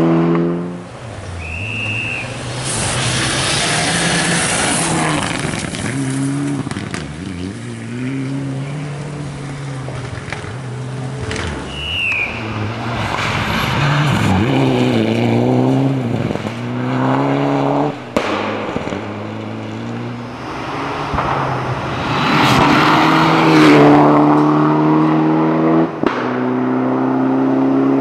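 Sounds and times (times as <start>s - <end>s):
rally car engines at high revs: 0.0s - 28.0s.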